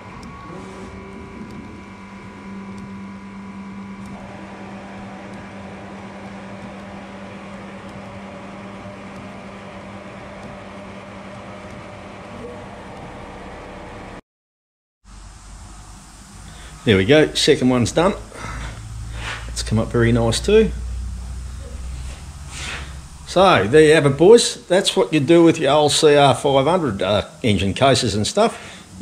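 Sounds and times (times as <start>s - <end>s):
machine hum: 0.0s - 14.2s, 15.1s - 29.0s.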